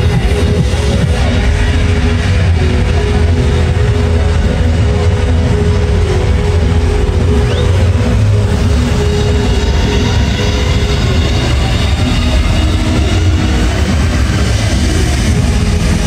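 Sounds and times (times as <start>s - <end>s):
electronic dance music: 0.0s - 16.0s.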